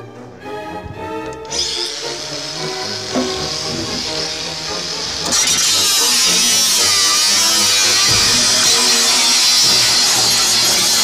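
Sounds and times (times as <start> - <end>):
background music: 0.0 - 11.0
angle grinder cutting metal sheet: 1.5 - 11.0.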